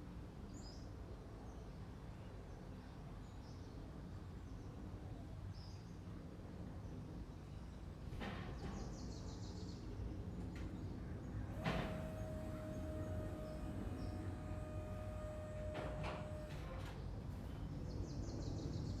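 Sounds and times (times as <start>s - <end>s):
low outdoor background noise: 0.0s - 19.0s.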